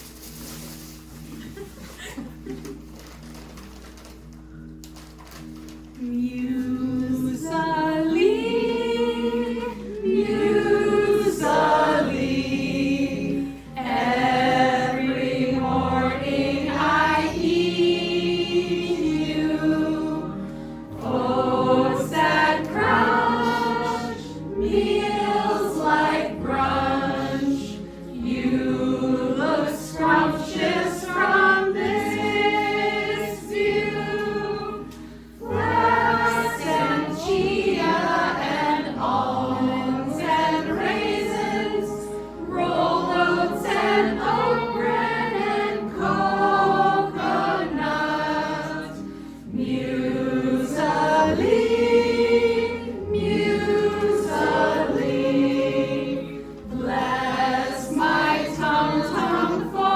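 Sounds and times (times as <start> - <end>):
group of voices singing: 6.0 - 59.9.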